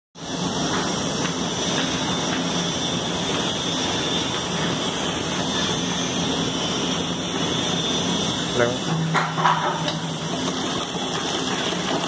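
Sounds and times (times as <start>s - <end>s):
machinery hum and hiss: 0.2s - 12.0s.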